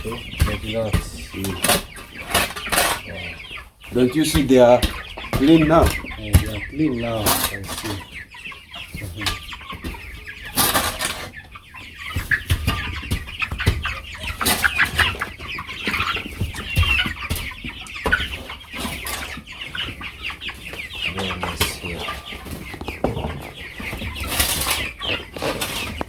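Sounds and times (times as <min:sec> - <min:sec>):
chickens cheeping and clucking: 0:00.0 - 0:26.0.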